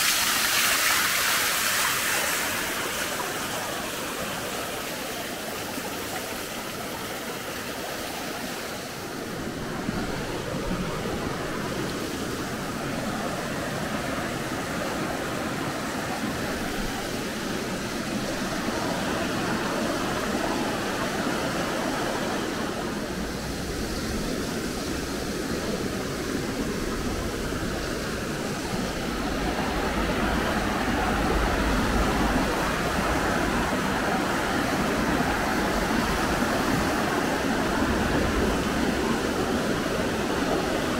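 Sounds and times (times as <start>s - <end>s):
rush of running water: 0.0s - 40.9s.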